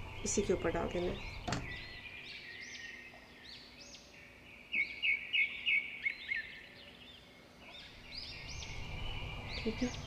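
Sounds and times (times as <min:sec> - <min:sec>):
birds chirping and twittering: 0:00.0 - 0:10.0.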